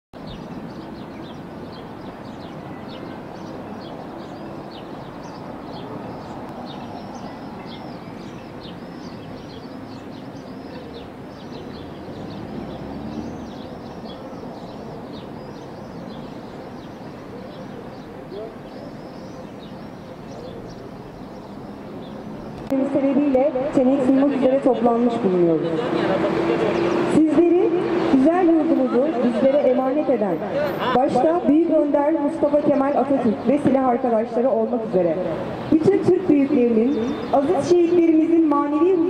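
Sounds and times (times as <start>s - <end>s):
small birds chirping: 0.2s - 25.5s, 30.0s - 39.0s.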